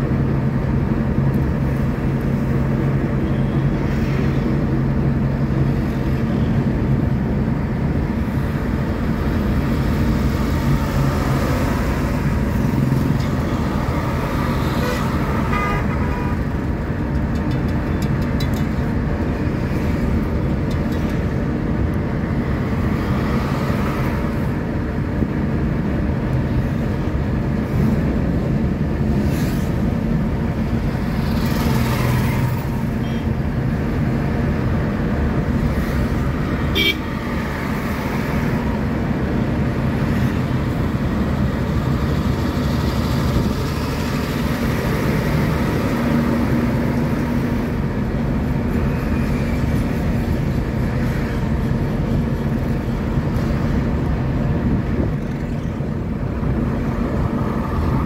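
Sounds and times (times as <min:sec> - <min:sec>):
traffic passing: 0:00.0 - 0:58.0
vehicle engine and tyre rumble: 0:00.0 - 0:58.0.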